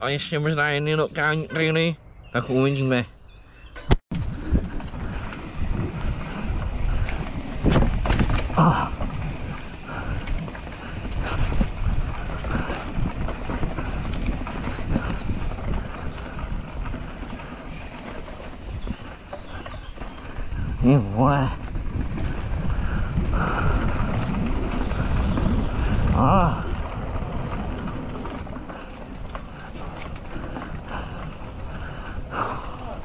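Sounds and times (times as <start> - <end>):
bike tyres rumbling and rattling: 0.0 - 33.0
wind buffeting microphone: 3.2 - 33.0.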